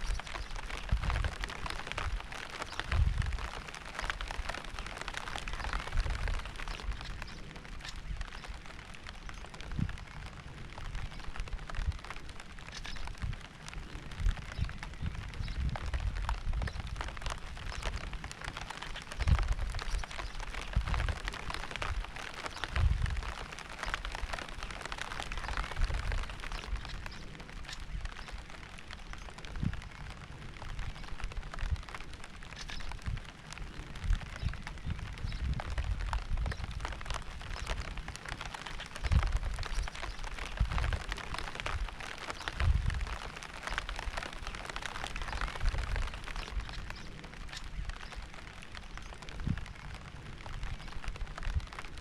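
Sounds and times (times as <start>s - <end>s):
rain pattering: 0.0s - 52.0s.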